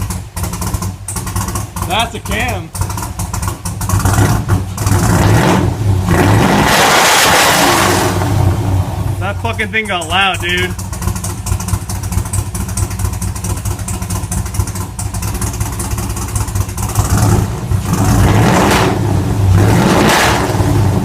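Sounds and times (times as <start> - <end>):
misfiring car engine idling: 0.0 - 21.0.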